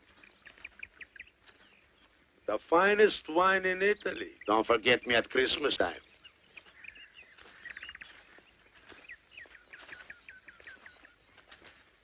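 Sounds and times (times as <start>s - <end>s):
faint songbird chirping: 0.0s - 12.0s.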